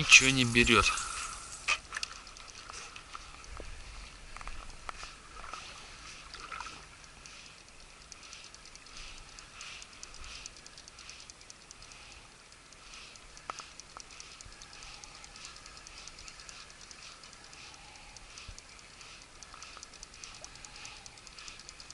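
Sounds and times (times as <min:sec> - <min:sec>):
fishing reel ticking: 0:00.0 - 0:21.9
sharp reel clicks: 0:00.0 - 0:21.9.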